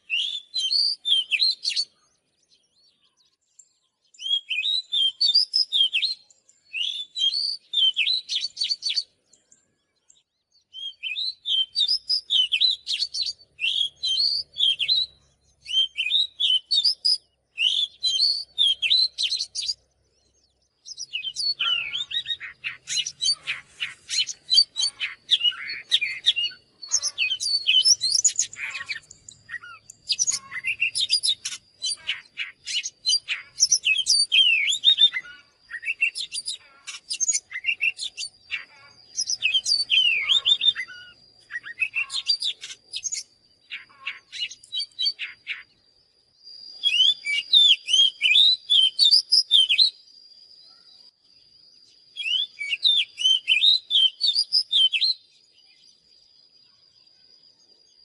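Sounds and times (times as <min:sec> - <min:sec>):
bird singing whistles and chirps: 0:00.0 - 0:58.0.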